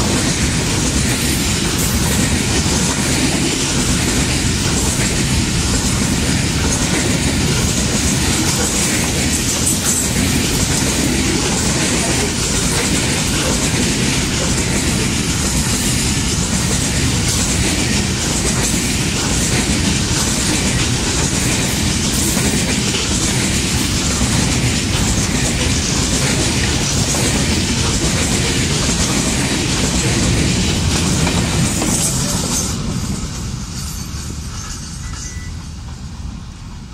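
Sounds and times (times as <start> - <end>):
train wheels on track: 0.0 - 36.9.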